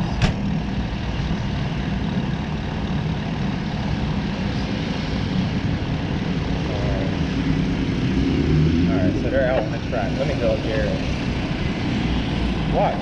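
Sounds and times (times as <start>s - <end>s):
bike rumbling: 0.0s - 13.0s.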